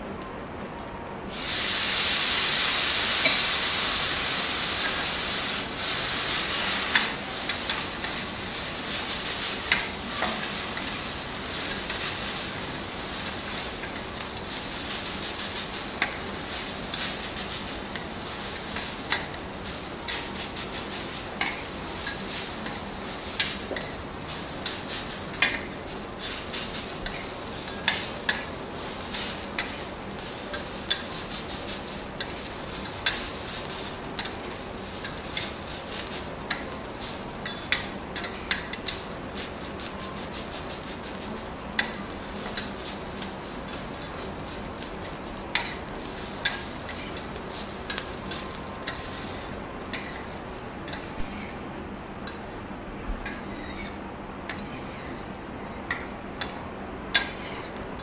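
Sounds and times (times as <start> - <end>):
rice sizzling on a griddle: 0.0 - 58.0
metal spatulas scraping a griddle: 6.3 - 52.6, 53.2 - 57.8.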